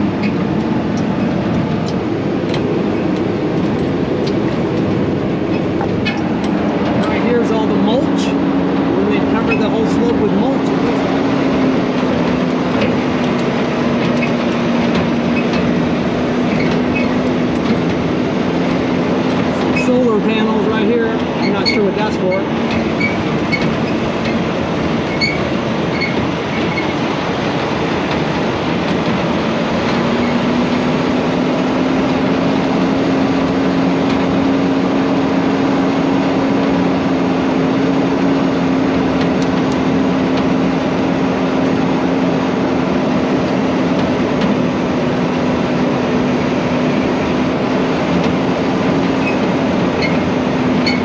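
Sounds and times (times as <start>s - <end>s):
road and rattle noise: 0.0s - 51.0s
truck engine drone: 0.0s - 51.0s.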